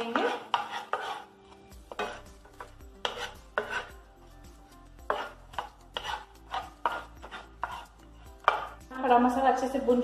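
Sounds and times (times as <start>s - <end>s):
wooden spatula scraping frying pan: 0.0s - 8.9s.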